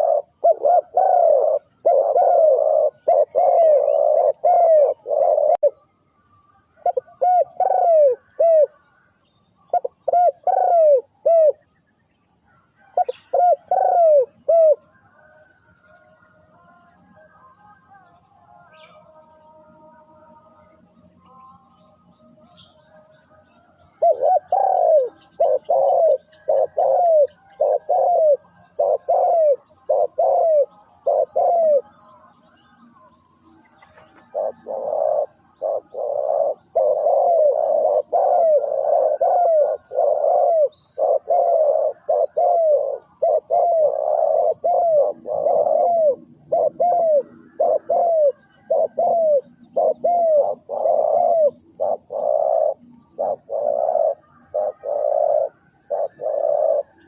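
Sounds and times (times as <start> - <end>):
doves cooing: 0.0 - 6.0, 6.6 - 17.2, 20.5 - 57.0
small birds chirping: 0.0 - 57.0.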